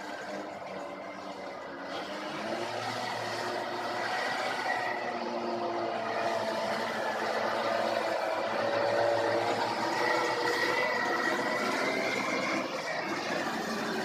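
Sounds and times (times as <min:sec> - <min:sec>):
truck diesel engine: 0:00.0 - 0:14.0
tyre and road noise: 0:00.0 - 0:14.0.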